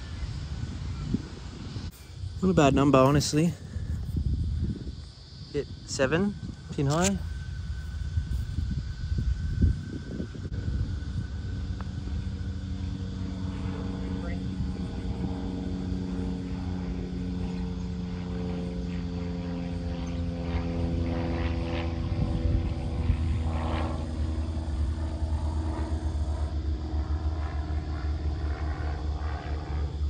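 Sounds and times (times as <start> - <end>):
propeller aircraft droning overhead: 0.0 - 30.0
wind rumbling on microphone: 0.0 - 30.0.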